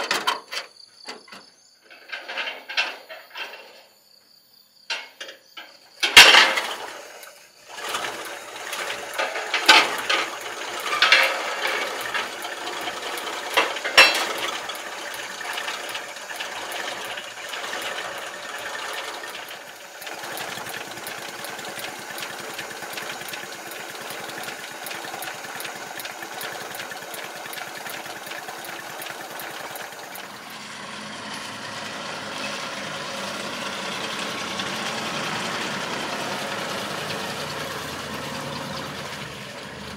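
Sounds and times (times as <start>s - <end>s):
truck engine revving and running: 6.4s - 39.9s.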